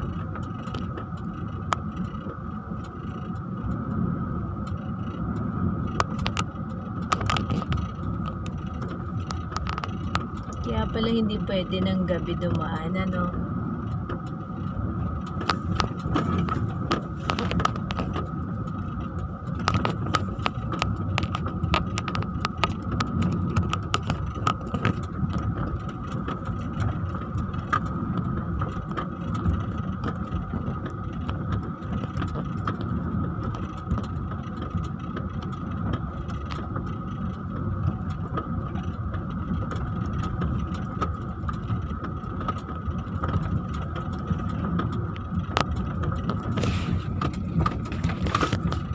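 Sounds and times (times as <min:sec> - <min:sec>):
vehicle engine and tyre rumble: 0:00.0 - 0:48.9
clicks and rattles in cabin: 0:04.6 - 0:13.2, 0:13.9 - 0:48.9.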